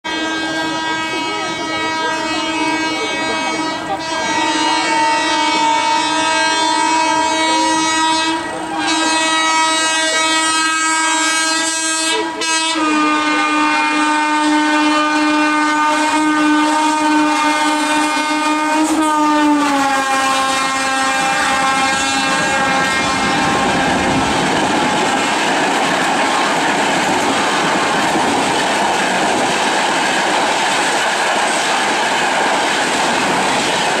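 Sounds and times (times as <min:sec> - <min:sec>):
locomotive twin-tone horn: 0:00.0 - 0:29.1
passing train coaches clattering: 0:00.0 - 0:34.0.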